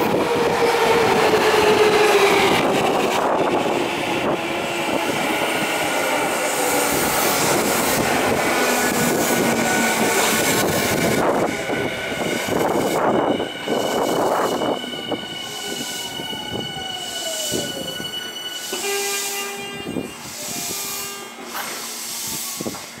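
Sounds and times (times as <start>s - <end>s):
train steady hum: 0.0s - 23.0s
train wheels rumbling on rail: 0.0s - 23.0s.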